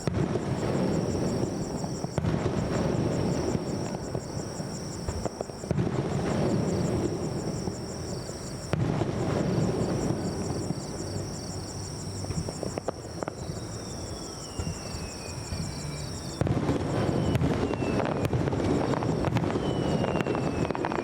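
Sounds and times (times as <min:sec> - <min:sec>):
crickets chirping: 0:00.0 - 0:21.0
falling firework whistles: 0:00.0 - 0:21.0
fireworks bursting and crackling: 0:00.0 - 0:21.0.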